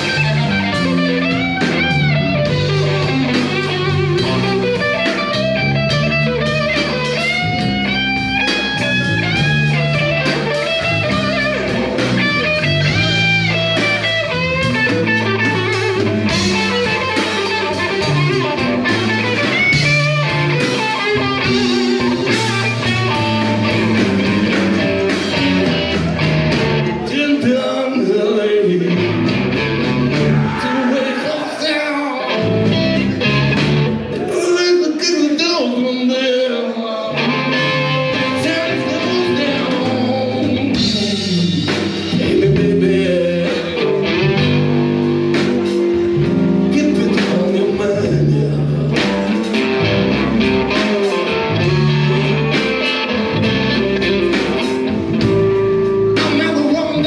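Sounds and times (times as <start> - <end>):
drum kit: 0.0 - 27.8, 28.9 - 35.8, 37.1 - 57.0
bass guitar: 0.0 - 57.0
electric guitar lead: 0.0 - 57.0.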